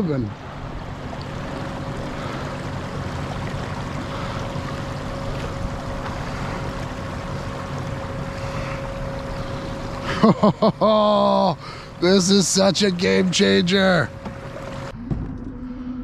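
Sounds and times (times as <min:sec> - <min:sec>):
water rushing along hull: 0:00.0 - 0:15.0
faint electric motor whine: 0:00.4 - 0:15.0.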